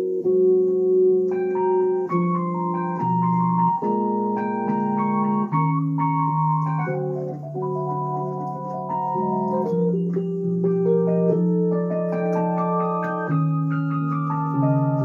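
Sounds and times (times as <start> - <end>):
electronic keyboard chords and melody: 0.0 - 15.0.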